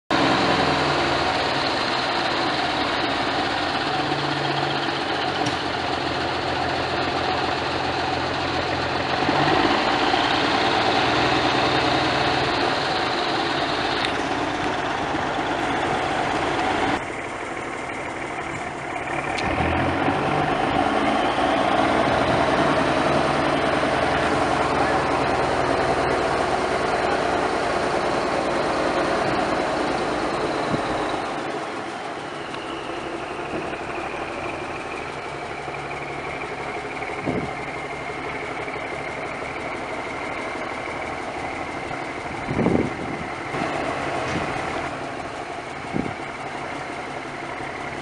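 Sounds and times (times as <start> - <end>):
diesel truck engine running: 0.1 - 48.0.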